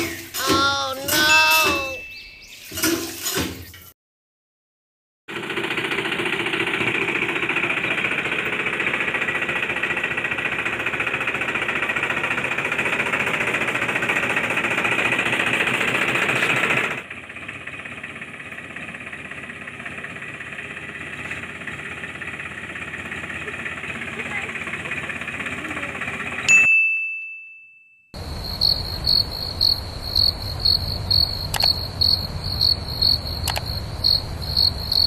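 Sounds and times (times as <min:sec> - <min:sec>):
tractor engine chugging: 0:00.0 - 0:02.1, 0:05.3 - 0:26.5, 0:28.2 - 0:35.0.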